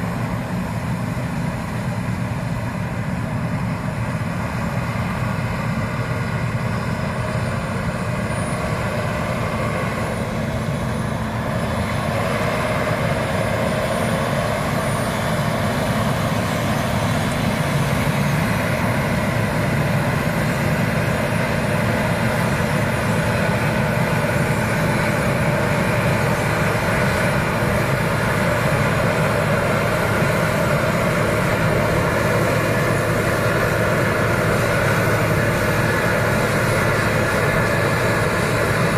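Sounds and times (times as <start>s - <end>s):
combine harvester rumbling: 0.0s - 38.9s.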